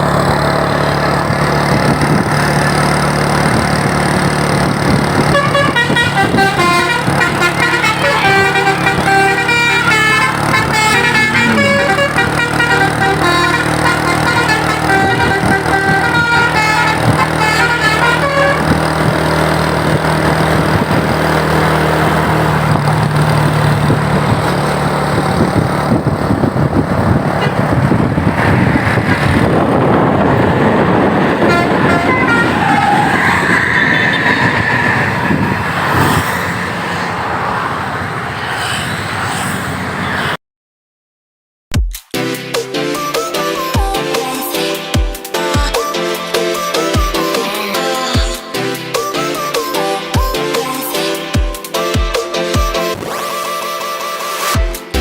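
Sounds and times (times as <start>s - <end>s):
musical multi-tone bus horn: 0.0s - 36.6s, 42.2s - 55.0s
bus engine running: 0.0s - 40.3s, 42.9s - 55.0s
road noise: 0.0s - 40.4s, 42.8s - 55.0s.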